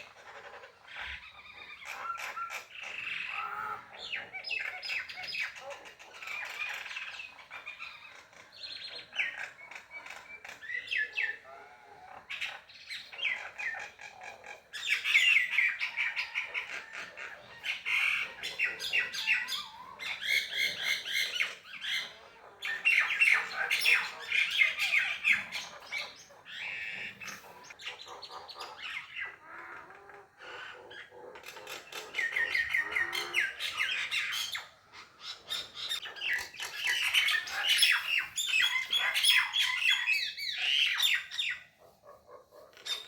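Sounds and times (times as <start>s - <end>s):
birds squawking and chirping: 0.0s - 43.0s.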